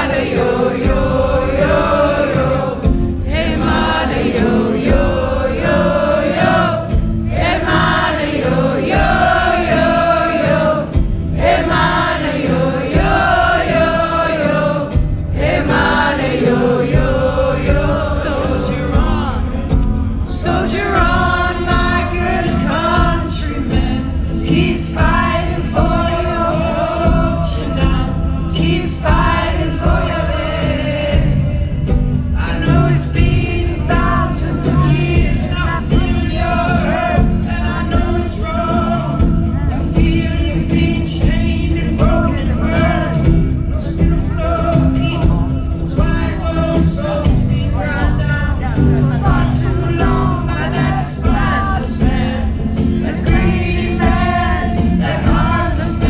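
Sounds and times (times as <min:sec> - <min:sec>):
choir-like singing: 0:00.0 - 0:56.0
musical accompaniment: 0:00.0 - 0:56.0.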